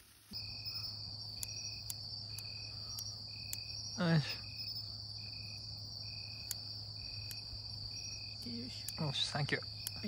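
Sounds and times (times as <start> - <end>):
insect chirping: 0.0 - 10.0
cricket trill: 0.3 - 10.0.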